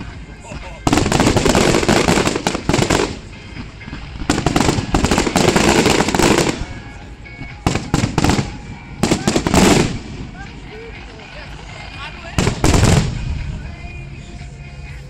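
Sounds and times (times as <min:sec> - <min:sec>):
fireworks bursting and crackling: 0:00.8 - 0:13.5.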